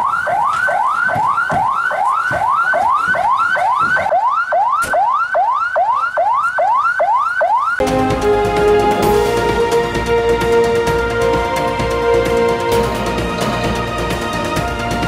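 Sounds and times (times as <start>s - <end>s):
ambulance siren yelping: 0.0s - 12.8s.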